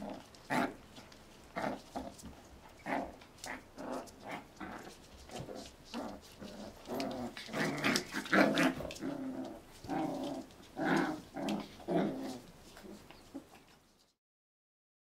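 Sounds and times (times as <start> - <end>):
puppies growling and yapping: 0.0 - 14.1.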